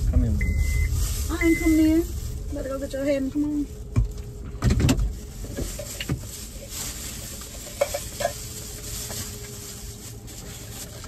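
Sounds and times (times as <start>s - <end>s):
paper wrappers rustling: 0.6s - 4.4s, 5.0s - 11.0s.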